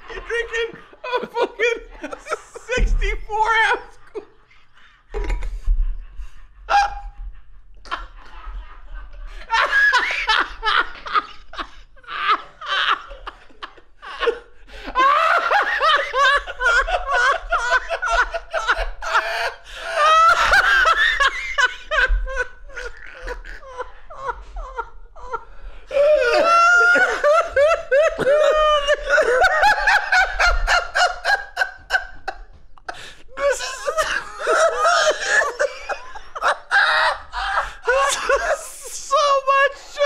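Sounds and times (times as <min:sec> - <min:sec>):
men laughing hard: 0:00.0 - 0:40.0.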